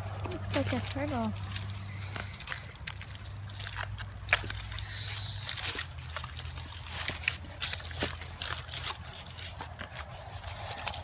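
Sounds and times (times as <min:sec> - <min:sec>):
mud and water squelching: 0:00.0 - 0:11.0.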